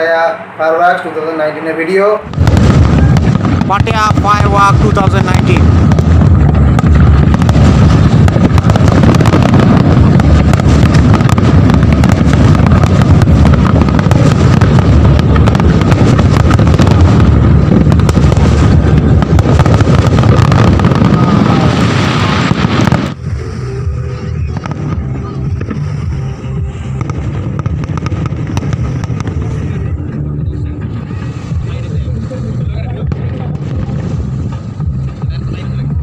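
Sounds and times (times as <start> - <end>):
fireworks booming and crackling: 1.8 - 36.0.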